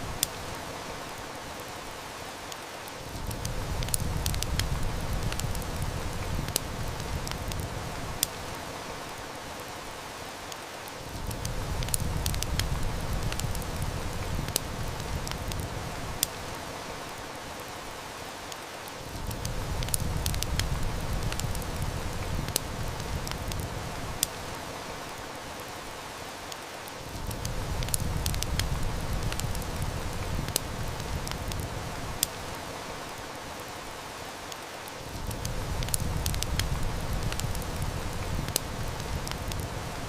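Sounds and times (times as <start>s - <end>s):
heavy rain hissing: 0.0s - 40.0s
wood fire crackling: 0.0s - 40.0s.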